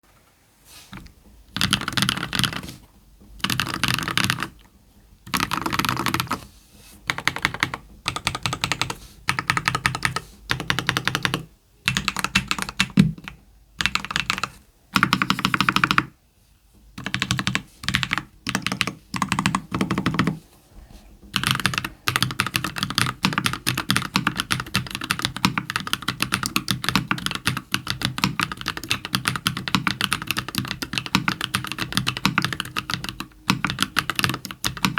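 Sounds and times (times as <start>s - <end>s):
mechanical keyboard typing: 1.6s - 2.6s, 3.4s - 4.6s, 5.3s - 6.4s, 7.1s - 16.1s, 17.0s - 20.4s, 21.3s - 34.9s.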